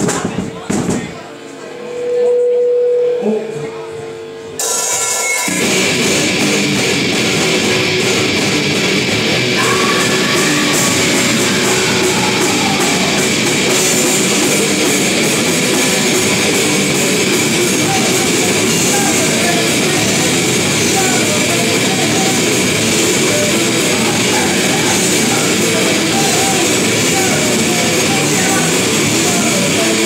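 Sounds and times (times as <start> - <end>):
drum kit: 0.0 - 1.2, 4.6 - 30.0
electric guitars: 4.6 - 30.0.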